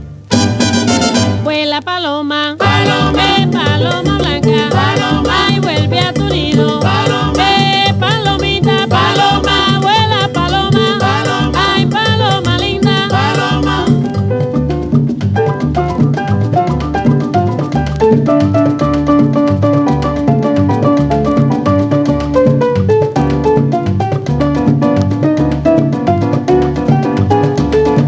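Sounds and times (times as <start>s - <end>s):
salsa music: 0.0s - 28.0s.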